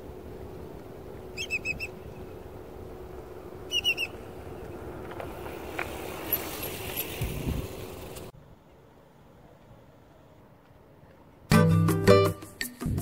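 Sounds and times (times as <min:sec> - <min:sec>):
bicycle tyres on dirt path: 0:00.0 - 0:11.4.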